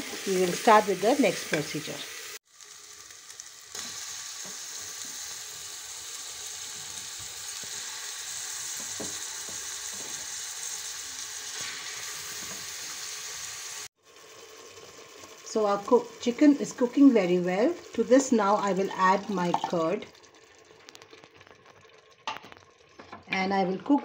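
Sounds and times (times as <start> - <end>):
chicken sizzling in gravy: 0.0 - 23.2.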